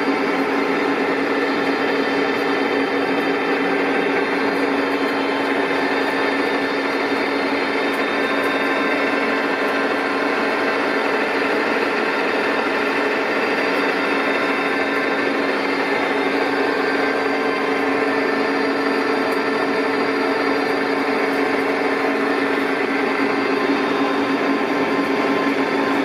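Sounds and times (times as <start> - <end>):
lathe mechanical whine: 0.0 - 26.0.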